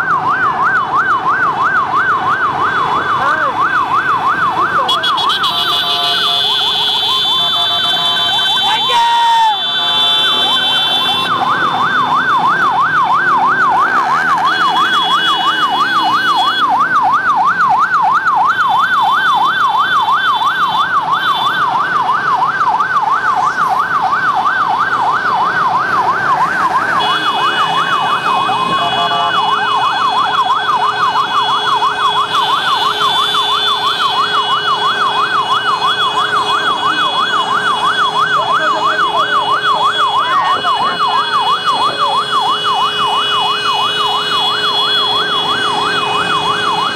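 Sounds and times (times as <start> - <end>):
electronic siren yelping: 0.0 - 46.9.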